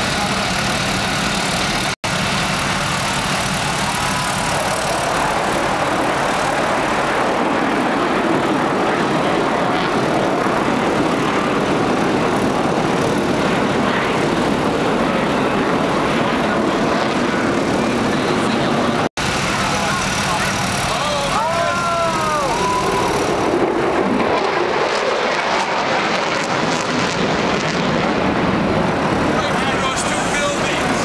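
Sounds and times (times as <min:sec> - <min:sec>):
jet aircraft flying overhead: 0:00.0 - 0:31.0.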